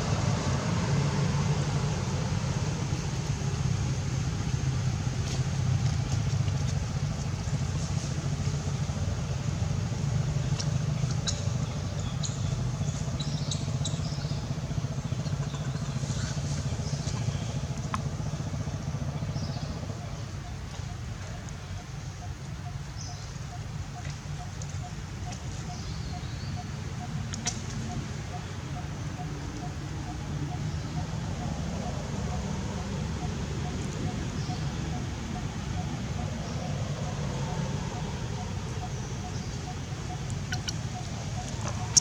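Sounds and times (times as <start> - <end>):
low engine rumble: 0.0 - 42.0.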